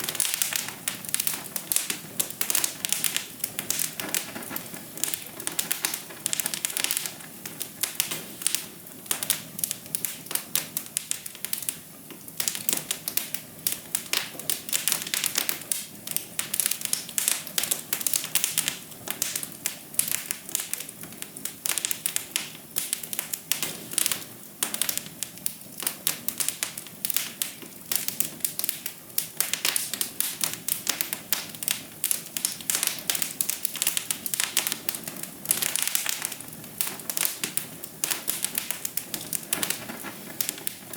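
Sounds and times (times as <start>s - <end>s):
soft steady hiss: 0.0s - 40.9s
wood fire crackling: 0.0s - 40.9s.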